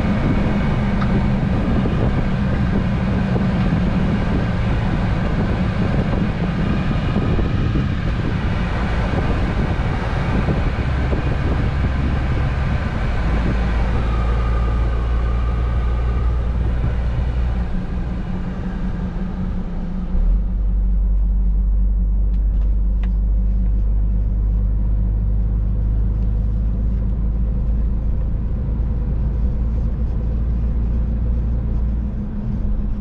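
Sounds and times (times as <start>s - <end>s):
diesel truck engine drone: 0.0s - 33.0s
tyre and road noise: 0.0s - 33.0s.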